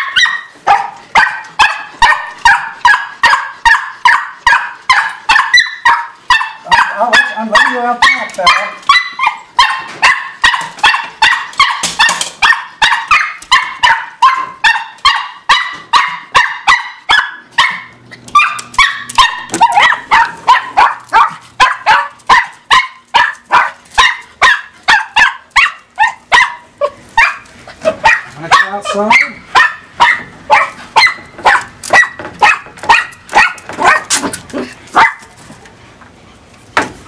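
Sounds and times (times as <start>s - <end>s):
small dog barking: 0.0s - 35.3s.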